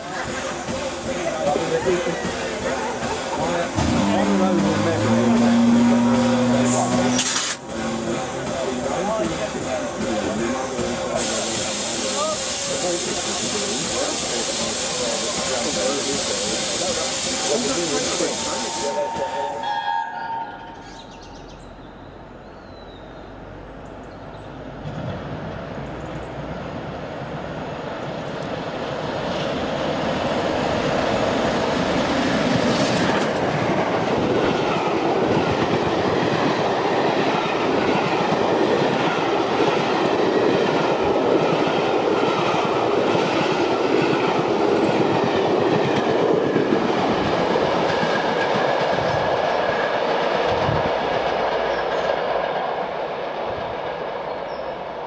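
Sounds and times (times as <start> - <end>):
train wheels clattering on rails: 0.0 - 19.5, 28.0 - 54.6.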